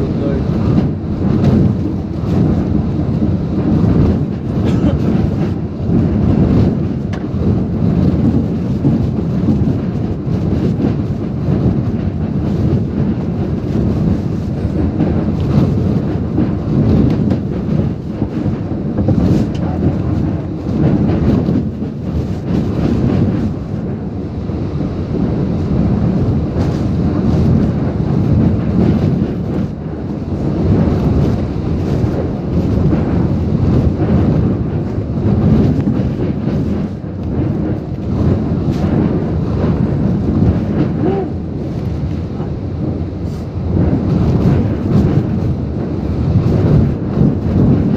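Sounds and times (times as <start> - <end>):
wind and rain battering truck: 0.0 - 47.9
wind blowing across microphone: 0.0 - 47.9.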